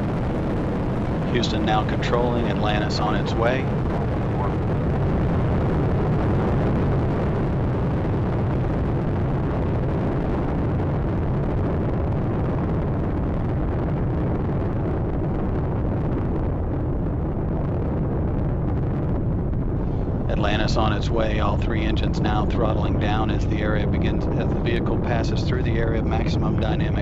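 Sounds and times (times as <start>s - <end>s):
rocket engines rumbling: 0.0s - 27.0s.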